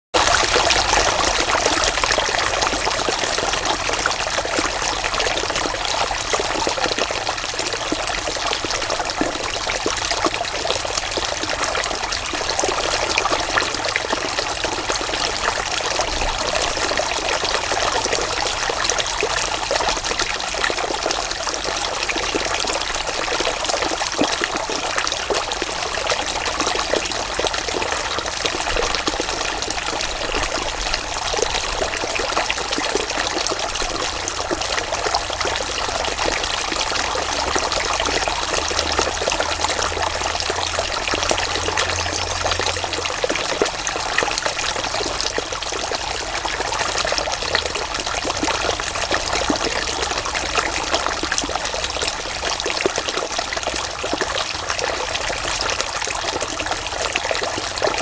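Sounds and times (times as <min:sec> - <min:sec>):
stream splashing over rocks: 0:00.2 - 0:58.0.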